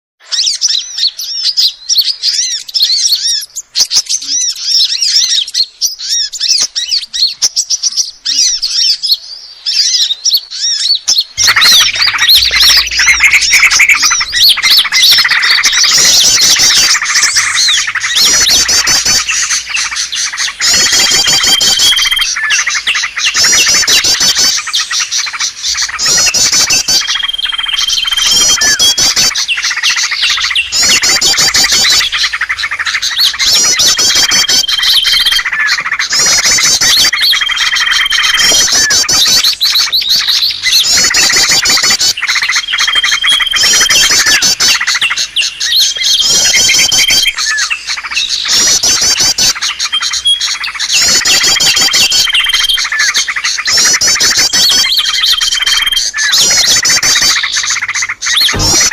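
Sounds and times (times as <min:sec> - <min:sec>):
long steady bird whistles: 0:00.2 - 0:58.9
songbirds chirping and trilling: 0:00.2 - 0:58.9.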